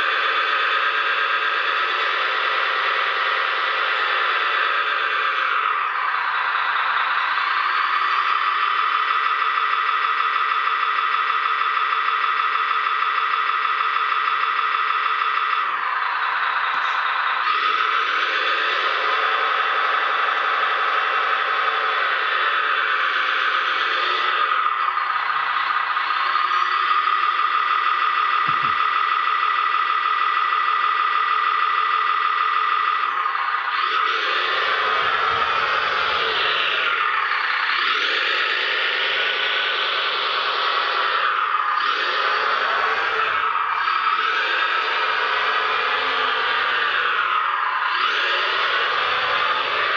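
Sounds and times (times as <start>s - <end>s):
electric motor whine: 0.0s - 11.6s, 12.3s - 49.9s.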